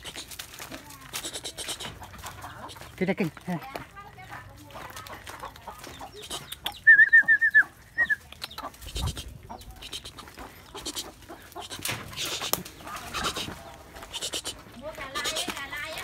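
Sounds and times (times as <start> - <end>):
chicken squawking: 0.0 - 0.5, 1.1 - 3.0, 5.1 - 15.6
footsteps in dry leaves: 0.0 - 6.6, 8.7 - 16.0.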